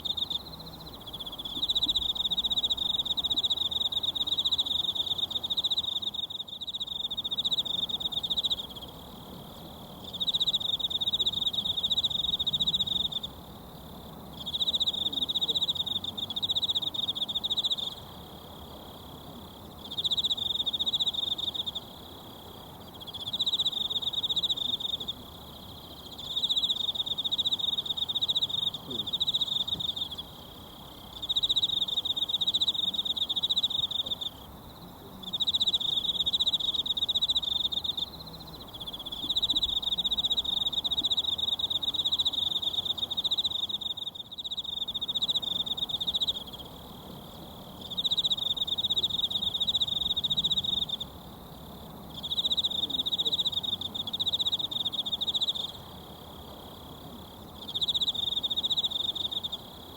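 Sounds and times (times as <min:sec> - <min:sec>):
insect trilling: 0:00.0 - 0:09.0, 0:19.8 - 0:51.4, 0:52.1 - 0:59.9.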